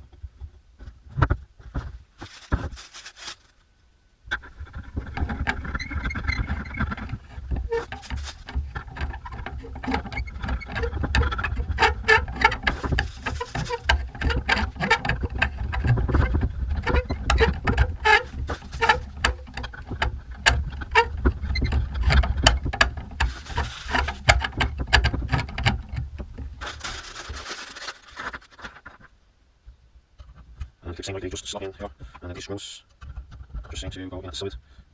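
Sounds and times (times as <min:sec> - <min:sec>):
rustling: 0:00.0 - 0:29.2.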